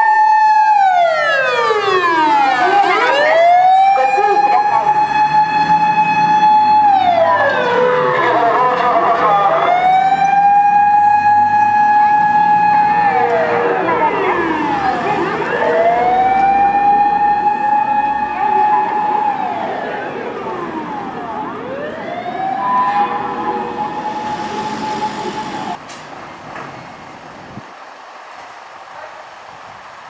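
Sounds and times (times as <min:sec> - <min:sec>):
mechanical siren wailing: 0:00.0 - 0:25.8.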